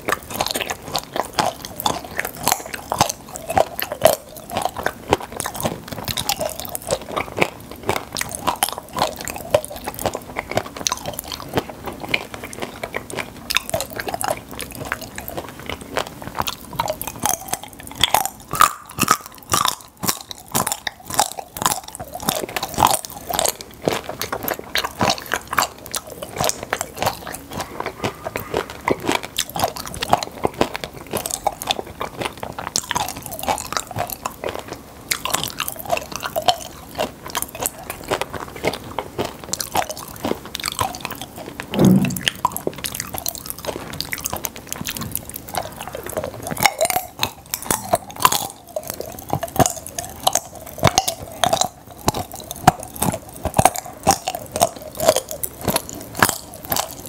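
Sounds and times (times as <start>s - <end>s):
popping candy crackles: 0.0s - 41.7s, 42.4s - 57.0s
chewing and crunching: 0.0s - 57.0s.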